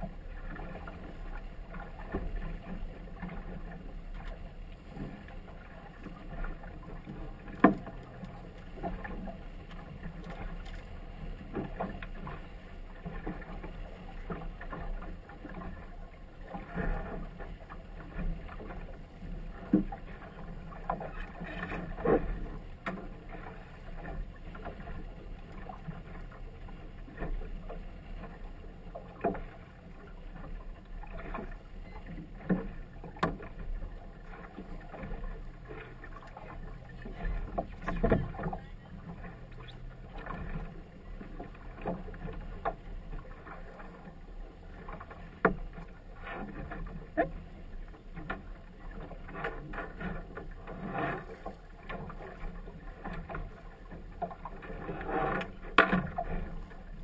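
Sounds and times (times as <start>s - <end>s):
steady wash of water: 0.0s - 57.0s
water slapping against boat: 0.0s - 57.0s.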